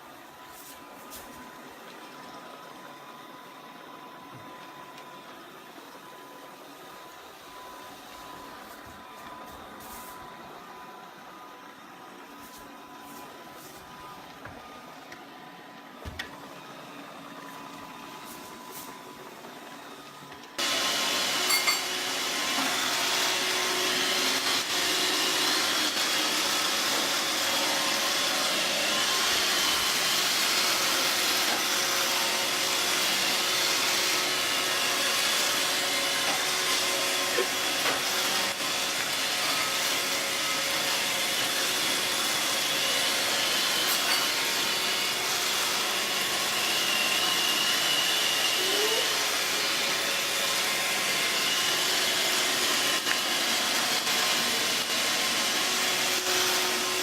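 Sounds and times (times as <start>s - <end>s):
robot vacuum cleaner running: 0.0s - 57.0s.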